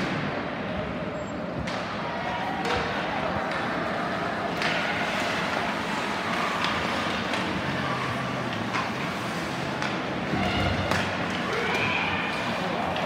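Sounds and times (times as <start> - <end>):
ice rink noise: 0.0 - 13.0.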